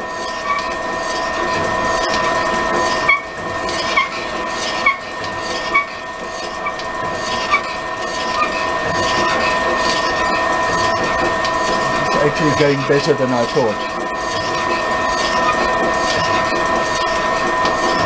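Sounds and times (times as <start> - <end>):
drill press humming: 0.0 - 18.0.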